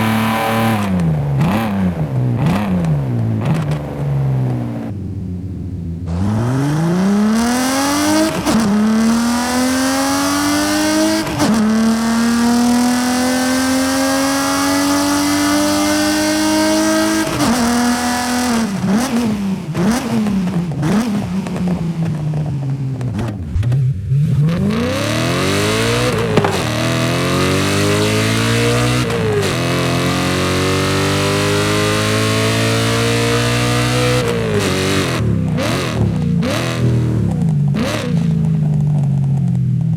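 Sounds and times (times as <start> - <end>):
car engine accelerating: 0.0 - 39.9
engine rev blips: 0.0 - 39.9.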